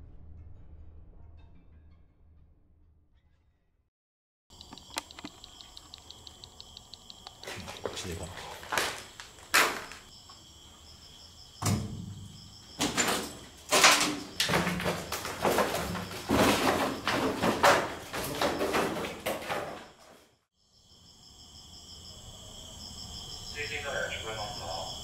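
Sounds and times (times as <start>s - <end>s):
crickets chirping: 4.5s - 25.0s.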